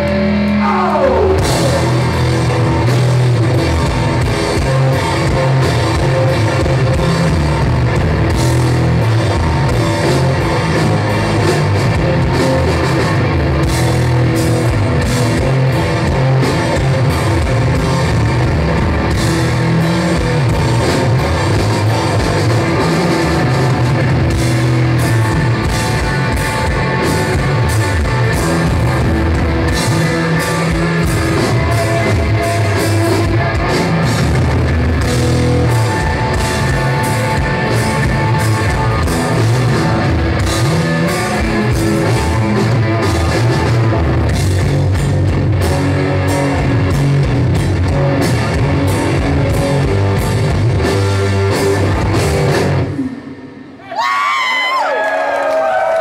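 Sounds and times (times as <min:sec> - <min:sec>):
heavy rock band playing live: 0:00.0 - 0:54.9.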